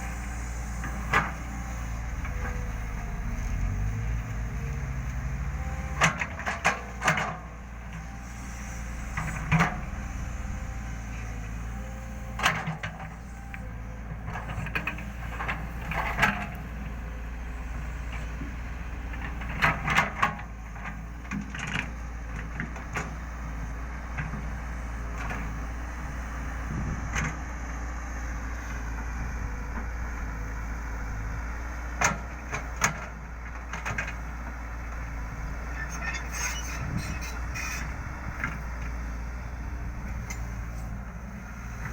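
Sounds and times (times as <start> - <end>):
excavator diesel engine: 0.0 - 41.9.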